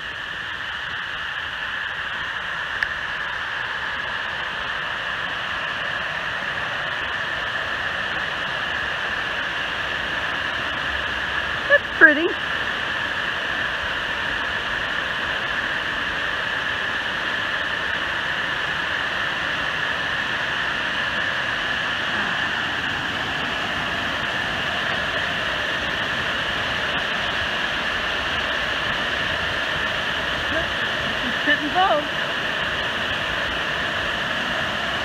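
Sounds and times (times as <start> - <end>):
waterfall rushing into pool: 0.0 - 35.0.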